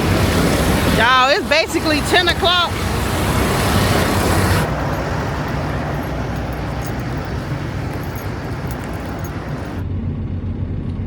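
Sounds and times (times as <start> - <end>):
diesel truck engine idling: 0.0 - 9.8.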